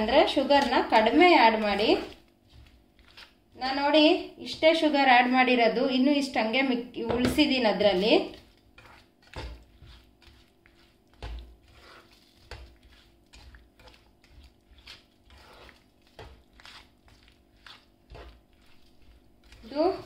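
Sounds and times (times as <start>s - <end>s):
spatula scraping frying pan: 0.0s - 3.8s, 7.6s - 20.0s.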